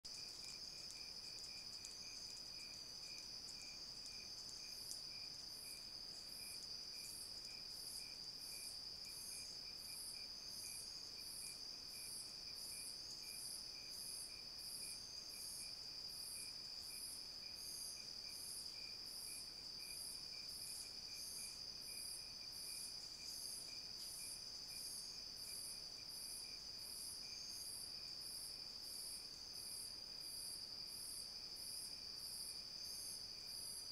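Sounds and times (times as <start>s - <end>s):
insect high chirp: 0.1s - 33.9s.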